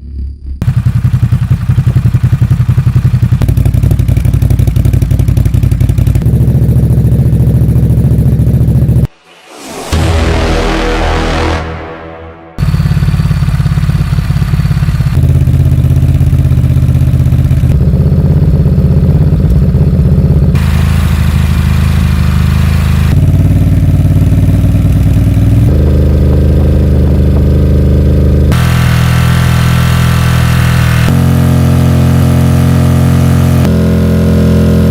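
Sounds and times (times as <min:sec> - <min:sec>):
motorcycle engine running: 0:00.6 - 0:09.1, 0:12.6 - 0:34.9.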